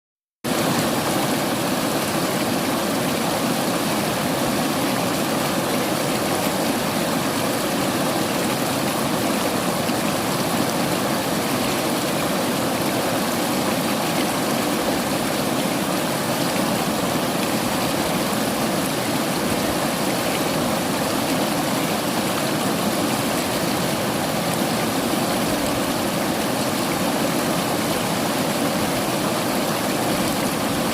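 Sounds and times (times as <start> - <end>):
river water flowing over rocks: 0.5 - 30.9.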